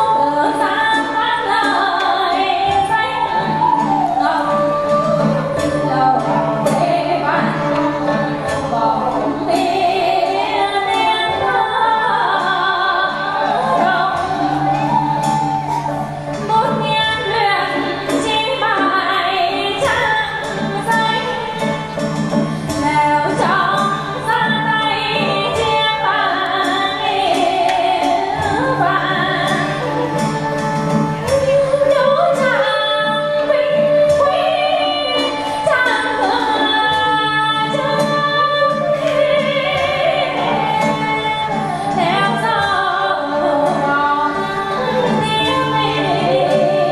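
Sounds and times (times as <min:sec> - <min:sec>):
woman singing with vibrato: 0:00.0 - 0:46.9.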